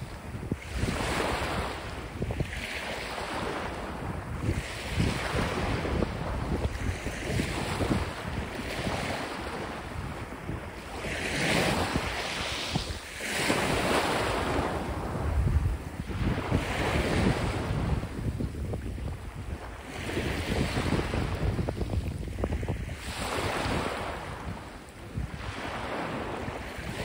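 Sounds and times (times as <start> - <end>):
waves breaking on shore: 0.0 - 27.0
wind buffeting microphone: 0.0 - 27.0.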